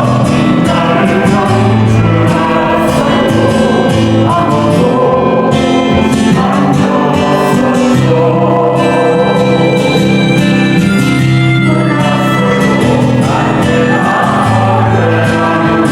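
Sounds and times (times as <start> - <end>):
instrumental backing: 0.0 - 15.9
vocal ensemble singing in harmony: 0.0 - 15.9.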